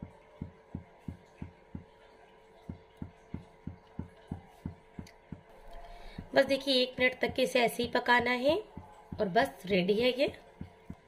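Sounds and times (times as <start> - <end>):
soft low thumps: 0.0 - 2.0, 2.6 - 11.0
faint steady hum: 0.0 - 11.0.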